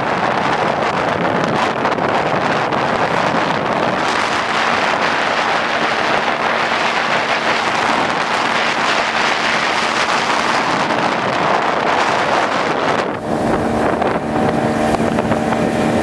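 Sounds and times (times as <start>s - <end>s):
outboard motor hum: 0.0s - 16.0s
water rushing along hull: 0.0s - 16.0s
wind buffeting microphone: 0.0s - 16.0s.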